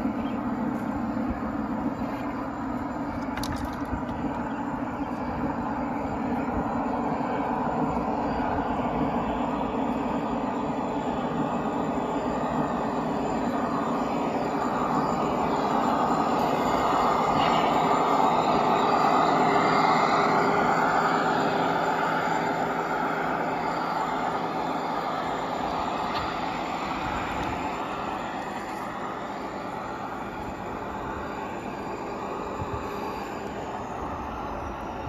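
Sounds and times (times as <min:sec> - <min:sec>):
model locomotives on track: 0:00.0 - 0:35.0.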